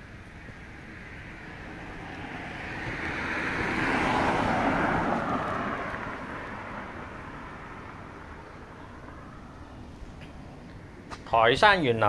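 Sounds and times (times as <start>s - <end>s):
car passing: 0.0s - 12.0s.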